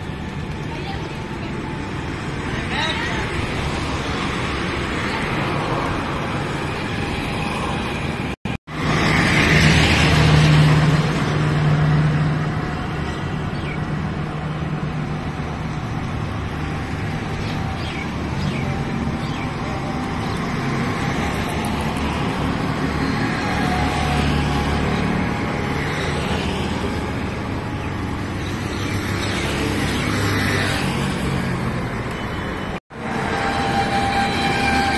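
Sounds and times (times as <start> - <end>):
road traffic: 0.0 - 34.9.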